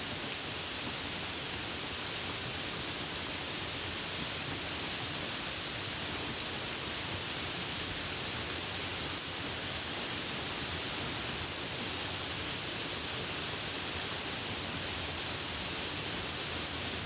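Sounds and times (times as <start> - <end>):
rain falling: 0.1 - 17.0.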